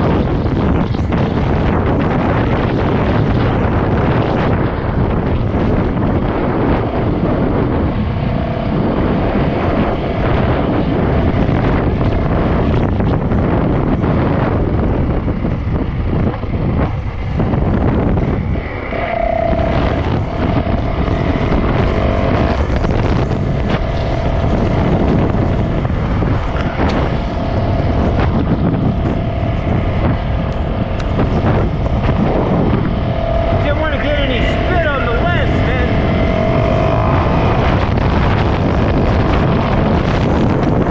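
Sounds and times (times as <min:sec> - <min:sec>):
dirt bike engine running: 0:00.0 - 0:40.9
wind buffeting microphone: 0:00.0 - 0:40.9.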